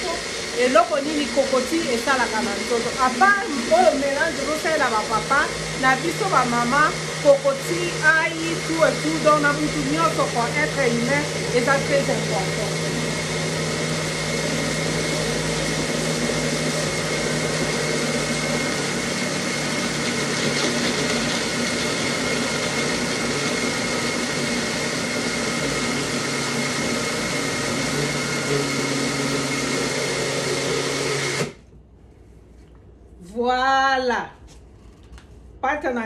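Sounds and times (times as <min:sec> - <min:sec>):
blender motor running: 0:00.0 - 0:31.6.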